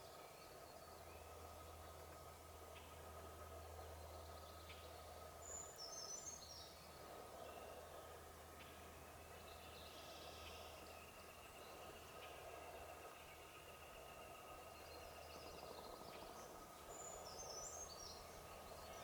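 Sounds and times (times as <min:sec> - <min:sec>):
faint outdoor ambience: 0:00.0 - 0:19.0.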